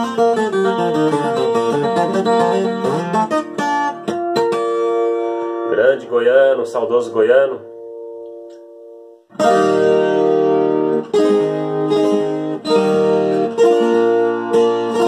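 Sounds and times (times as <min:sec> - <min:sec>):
plucked guitar chords: 0:00.0 - 0:15.0.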